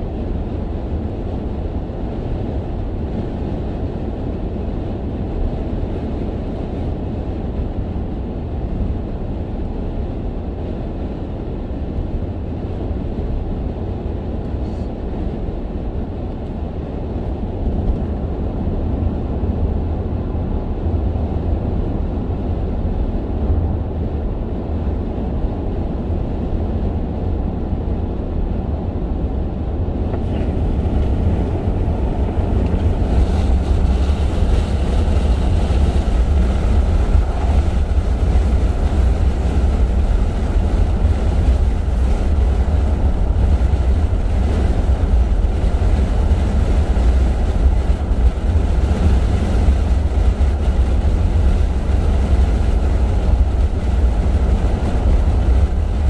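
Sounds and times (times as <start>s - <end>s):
tyre and engine rumble in car cabin: 0.0s - 56.0s.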